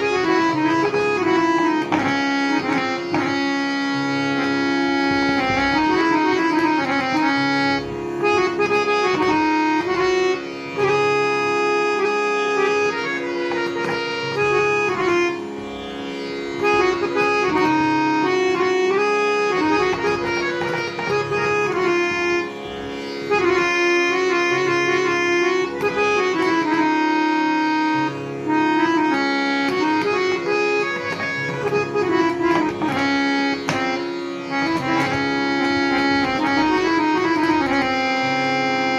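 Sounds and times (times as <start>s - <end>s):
harmonium melody over drone: 0.0s - 38.9s.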